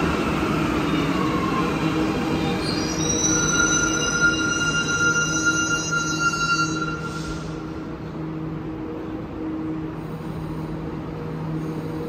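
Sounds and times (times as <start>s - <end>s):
metro train running: 0.0s - 12.0s.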